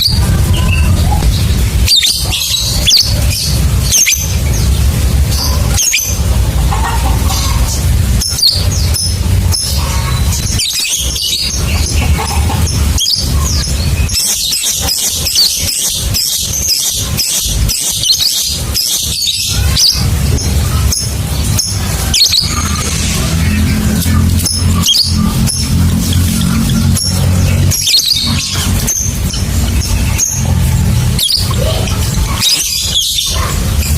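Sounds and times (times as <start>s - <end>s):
steady low hum: 0.0s - 14.1s, 18.4s - 33.9s
bird chattering trill: 0.0s - 33.9s.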